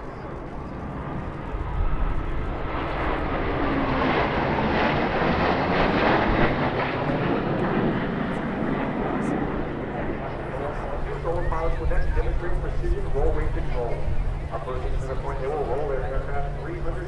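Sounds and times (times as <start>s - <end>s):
jet planes passing: 0.0s - 17.0s.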